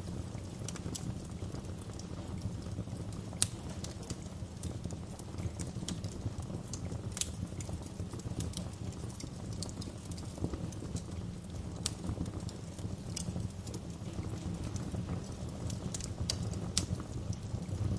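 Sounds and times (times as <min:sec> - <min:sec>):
wood fire crackling and popping: 0:00.0 - 0:17.9.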